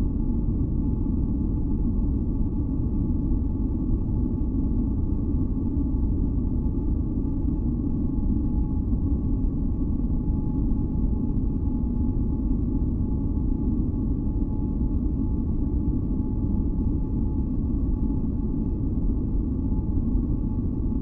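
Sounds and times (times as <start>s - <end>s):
faint humming tones: 0.0s - 21.0s.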